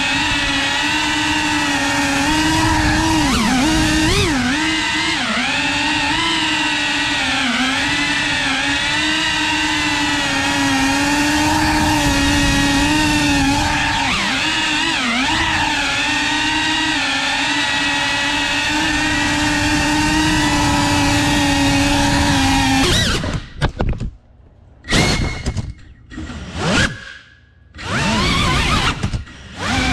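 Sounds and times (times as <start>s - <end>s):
drone motors buzzing: 0.0s - 23.6s, 27.8s - 29.9s.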